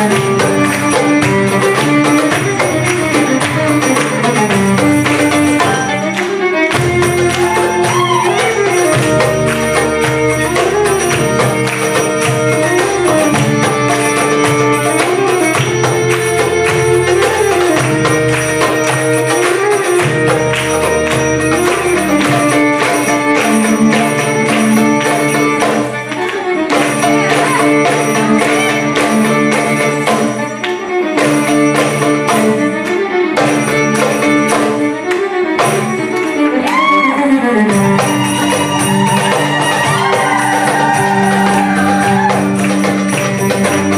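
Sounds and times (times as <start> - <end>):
hand percussion: 0.0 - 43.9
violin sliding melody: 0.0 - 43.9.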